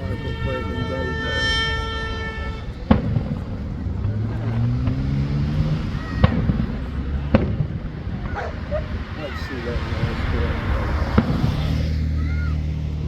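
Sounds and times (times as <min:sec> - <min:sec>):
fireworks bangs: 0:00.0 - 0:12.2
traffic rumble: 0:00.0 - 0:13.0
wind: 0:00.0 - 0:13.0.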